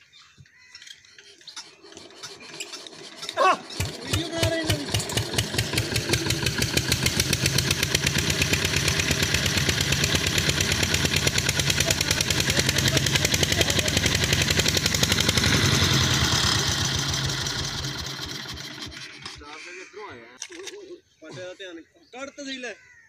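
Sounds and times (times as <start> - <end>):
diesel engine chugging: 1.2 - 20.0.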